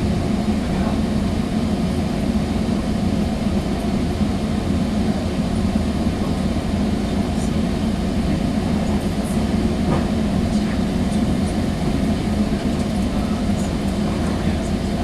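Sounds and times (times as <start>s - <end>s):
train coach rumble: 0.0s - 15.0s.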